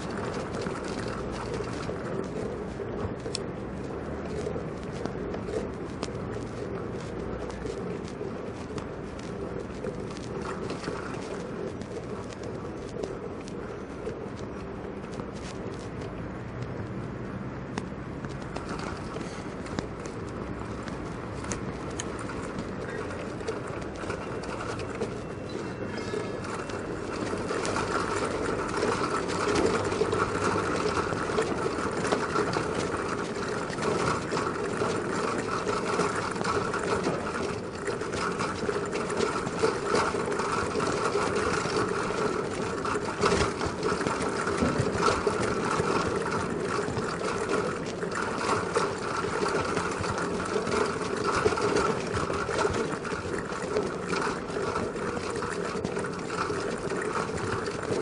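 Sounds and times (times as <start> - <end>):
bicycle basket rattling: 0.0 - 58.0
tyre noise on cobblestones: 0.0 - 58.0.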